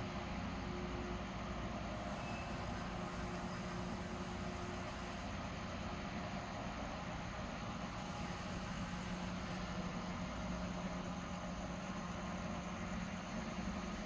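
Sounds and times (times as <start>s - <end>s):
rail vehicle engine rumbling: 0.0s - 14.0s.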